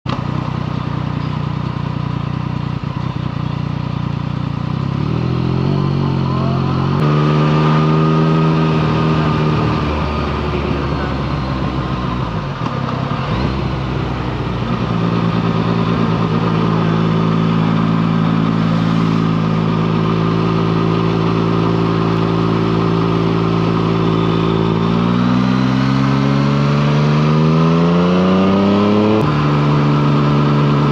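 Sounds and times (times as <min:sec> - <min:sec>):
motorcycle engine revving: 0:00.1 - 0:30.9.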